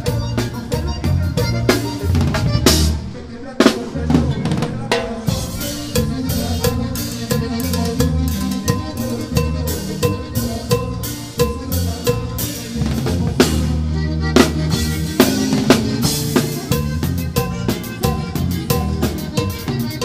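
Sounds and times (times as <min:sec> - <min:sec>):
bass line: 0:00.0 - 0:20.0
drum kit playing: 0:00.0 - 0:20.0.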